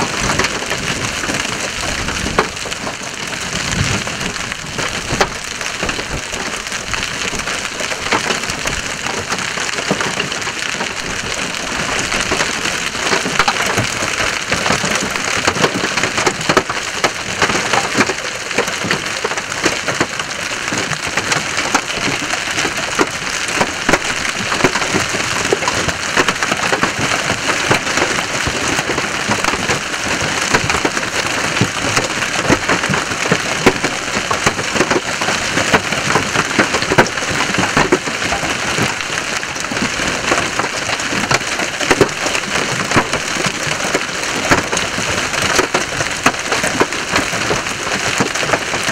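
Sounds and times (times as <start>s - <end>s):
hail pounding on road and vehicles: 0.0s - 48.9s.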